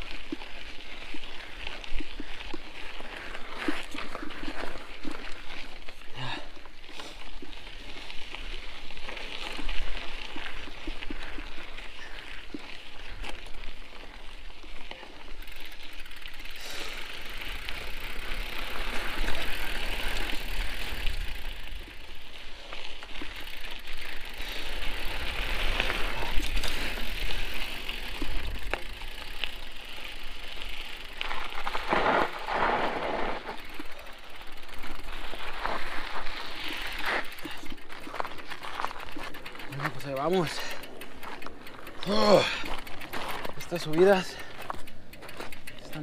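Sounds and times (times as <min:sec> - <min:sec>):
bike clicks and rattles: 0:00.0 - 0:46.0
bike tyres crunching on gravel: 0:00.0 - 0:46.0.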